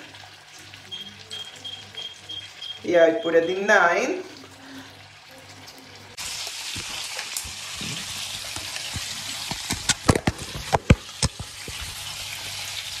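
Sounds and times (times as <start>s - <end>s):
fish sizzling in a pan: 0.0s - 13.0s.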